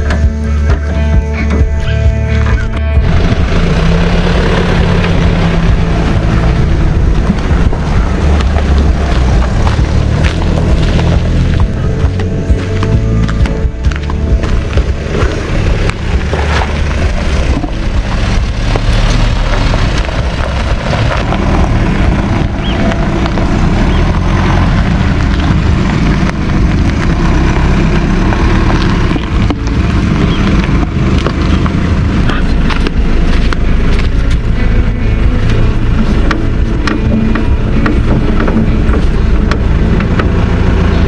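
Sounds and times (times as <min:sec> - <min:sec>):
diesel engine rumbling: 0:00.0 - 0:41.0.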